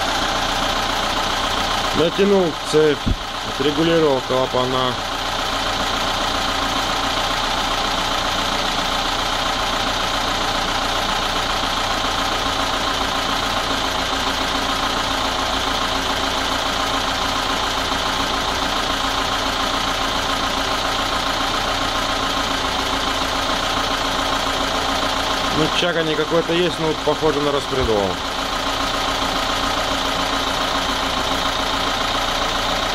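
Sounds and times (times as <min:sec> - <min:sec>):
car engine idling with ticking: 0:00.0 - 0:32.9.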